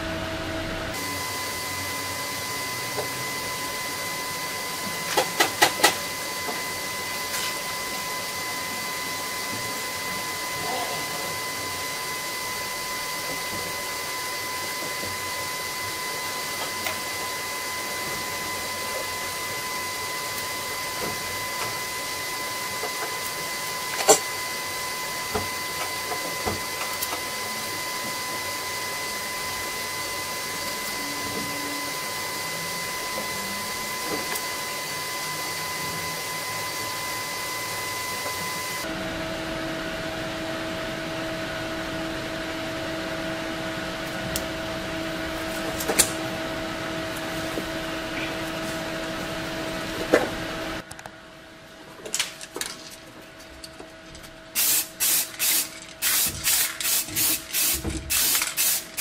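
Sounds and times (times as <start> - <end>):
machine hum and hiss: 0.0 - 59.0.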